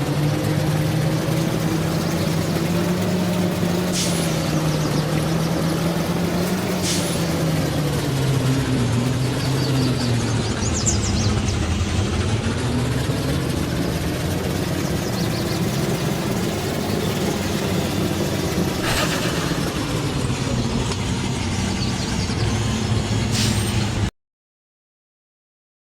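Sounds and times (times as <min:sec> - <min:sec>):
truck engine running: 0:00.0 - 0:24.1.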